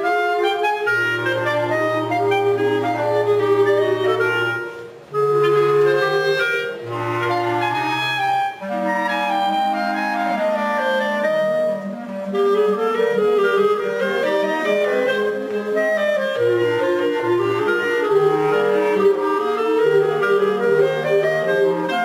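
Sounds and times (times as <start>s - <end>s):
clarinet ensemble playing: 0.0s - 22.0s.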